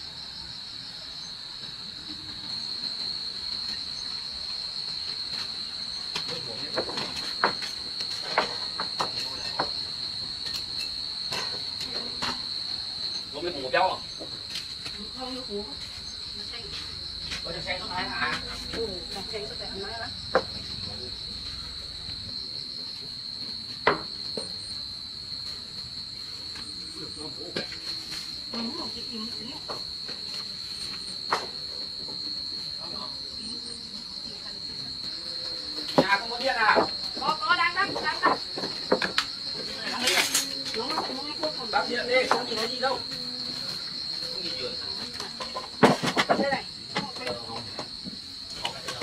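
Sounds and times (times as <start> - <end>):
insects trilling: 0.0 - 49.0.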